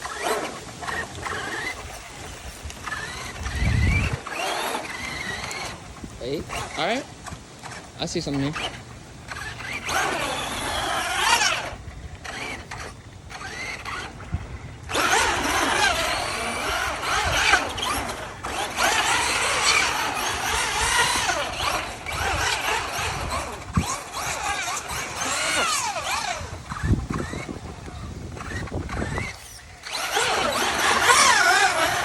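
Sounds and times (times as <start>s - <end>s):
rc truck electric motor whining: 0.0s - 32.0s.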